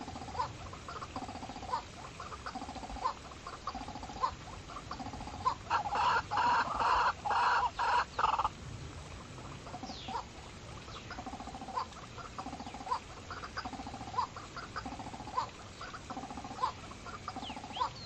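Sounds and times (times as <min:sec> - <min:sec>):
bird clucking: 0:00.0 - 0:08.5, 0:10.9 - 0:18.0.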